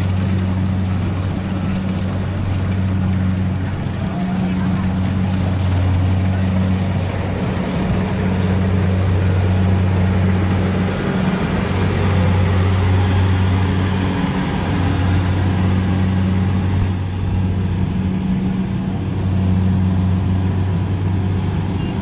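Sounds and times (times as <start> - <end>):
harvester engine droning: 0.0 - 22.0.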